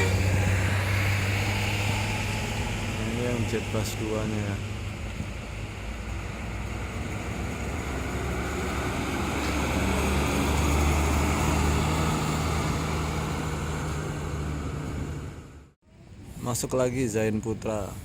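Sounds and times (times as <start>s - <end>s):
coach diesel engine passing: 0.0s - 15.8s.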